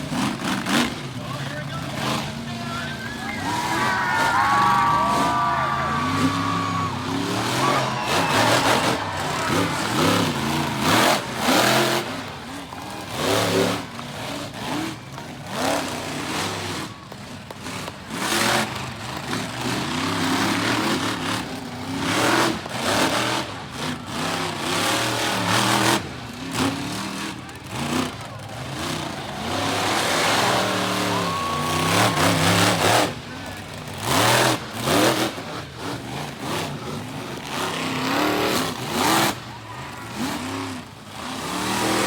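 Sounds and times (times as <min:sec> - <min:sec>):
truck engine revving hard: 0:00.0 - 0:42.0.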